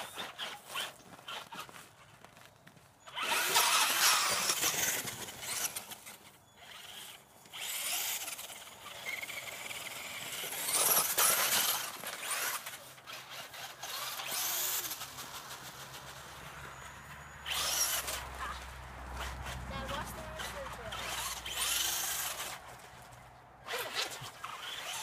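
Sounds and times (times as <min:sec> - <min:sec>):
toy car motor whining: 0:00.0 - 0:25.0.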